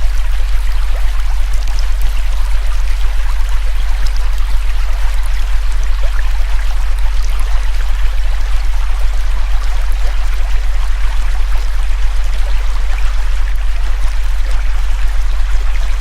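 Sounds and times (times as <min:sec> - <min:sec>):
river water running: 0:00.0 - 0:16.0
very low electronic tone: 0:00.0 - 0:16.0.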